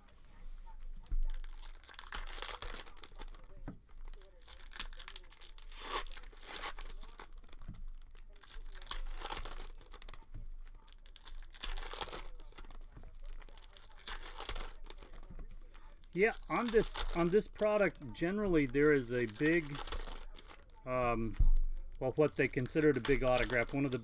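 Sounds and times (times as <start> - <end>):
plastic and foil wrapping crinkling: 0.0 - 24.0.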